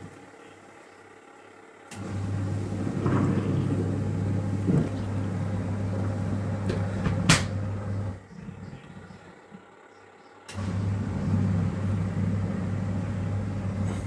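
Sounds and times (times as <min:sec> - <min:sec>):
washing machine motor humming: 0:00.0 - 0:14.0.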